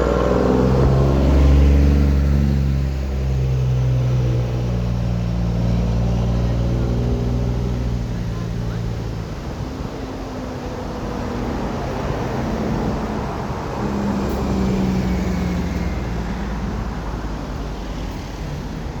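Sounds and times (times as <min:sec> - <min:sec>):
heavy trucks driving past: 0:00.0 - 0:19.0
road noise: 0:00.0 - 0:19.0.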